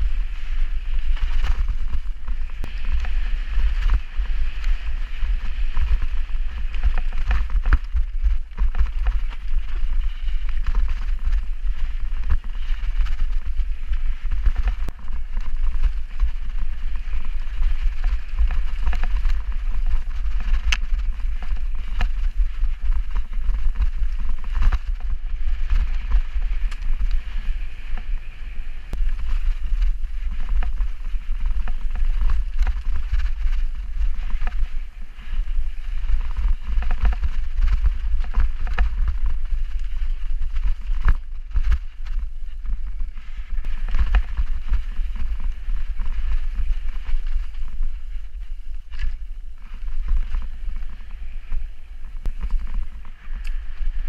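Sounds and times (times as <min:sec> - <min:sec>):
bike rattling over bumps: 0:00.0 - 0:54.0
bike tyre noise: 0:00.0 - 0:54.0
wind rumble on microphone: 0:00.0 - 0:54.0.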